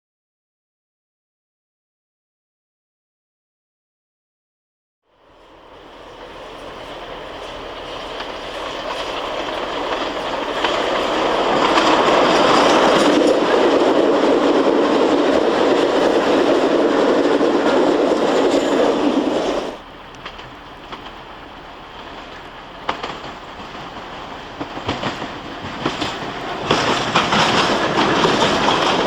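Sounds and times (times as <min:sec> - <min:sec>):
train wheels clattering over rail joints: 0:05.4 - 0:29.0.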